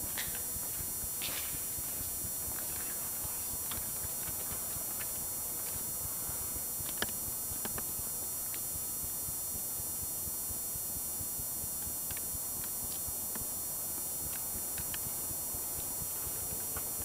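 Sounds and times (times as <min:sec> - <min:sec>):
steady hiss and low rumble: 0:00.0 - 0:17.0.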